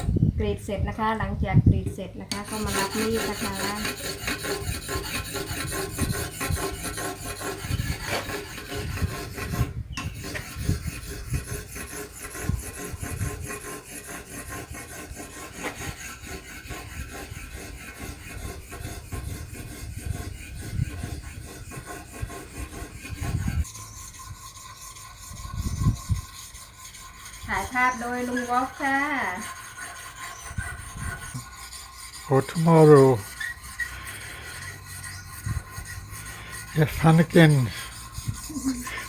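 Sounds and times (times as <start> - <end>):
knife blade rasping on sharpener: 2.3 - 39.0.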